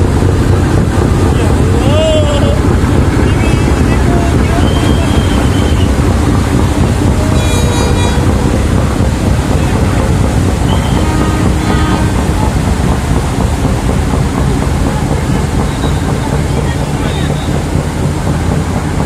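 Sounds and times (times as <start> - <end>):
boat engines rumbling: 0.0 - 19.0
churning wake water: 0.0 - 19.0.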